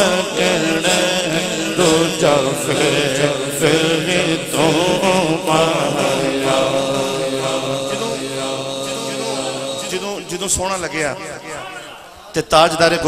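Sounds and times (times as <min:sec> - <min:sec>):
man singing: 0:00.0 - 0:11.7.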